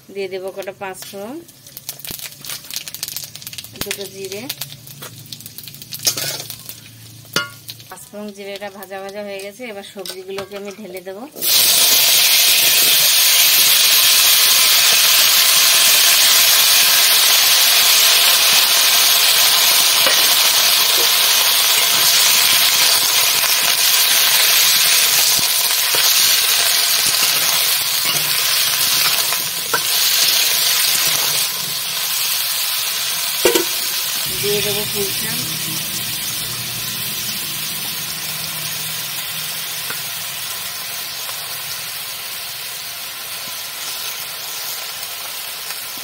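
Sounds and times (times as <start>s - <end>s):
vegetables sizzling in hot oil: 0.0s - 46.0s.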